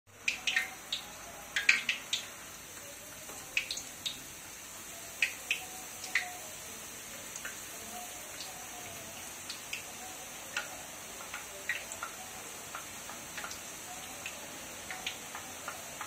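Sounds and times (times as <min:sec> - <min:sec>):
batter frying in hot oil: 0:00.1 - 0:16.0.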